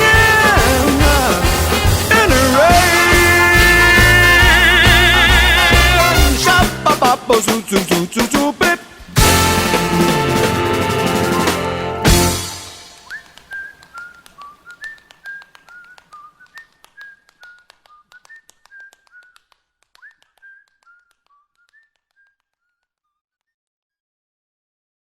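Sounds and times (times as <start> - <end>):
whistled melody: 0.0 - 8.3, 9.2 - 22.8.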